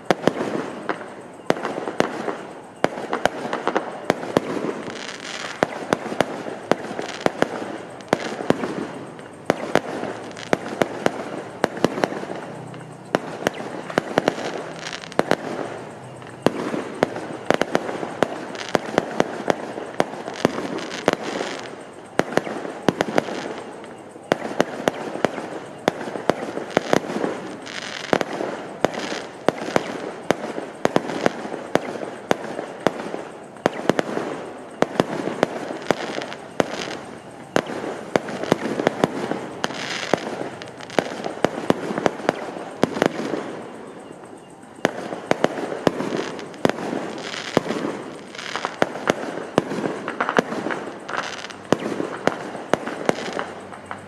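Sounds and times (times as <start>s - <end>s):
firecracker crackling: 0.0s - 54.0s
firework bangs: 0.0s - 54.0s.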